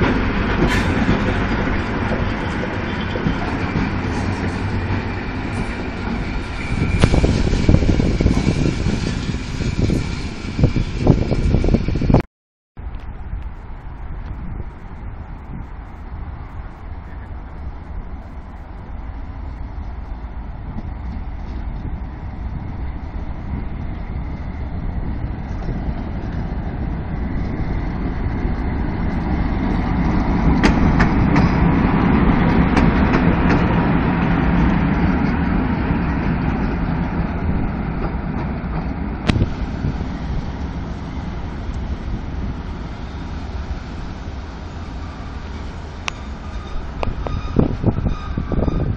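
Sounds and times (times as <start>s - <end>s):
electric locomotive passing: 0.0s - 12.2s, 12.8s - 48.9s.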